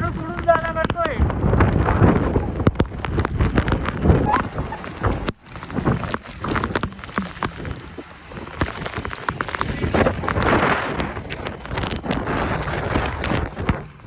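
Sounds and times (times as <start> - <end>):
wind buffeting microphone: 0.0 - 14.0
heavy rain: 0.2 - 14.0.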